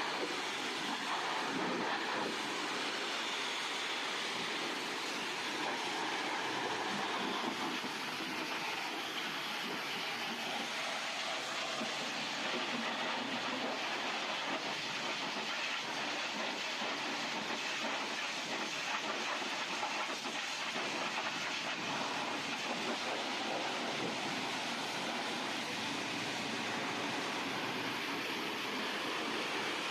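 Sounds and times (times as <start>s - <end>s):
car wash equipment hissing: 0.0s - 29.9s.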